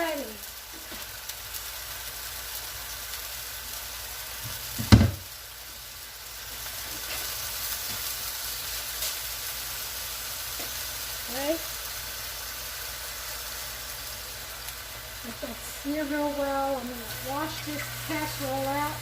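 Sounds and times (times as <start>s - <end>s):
meat sizzling in oil: 0.0s - 19.0s.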